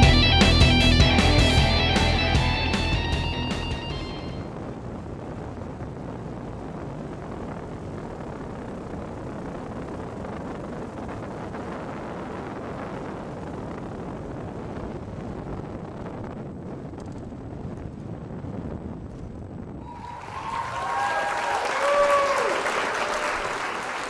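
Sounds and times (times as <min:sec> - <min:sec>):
wind rushing over microphone: 0:03.3 - 0:24.0.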